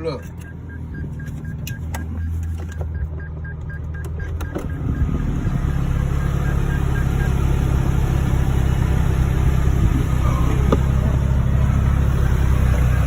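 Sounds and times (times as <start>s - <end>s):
sports car engine drone: 0.0s - 13.0s.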